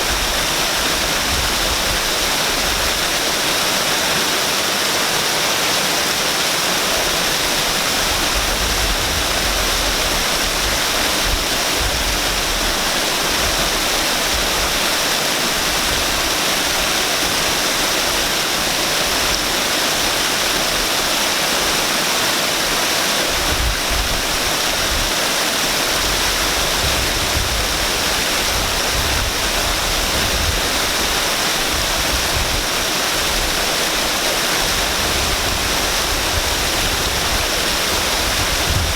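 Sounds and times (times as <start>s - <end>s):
waterfall pouring: 0.0s - 38.9s.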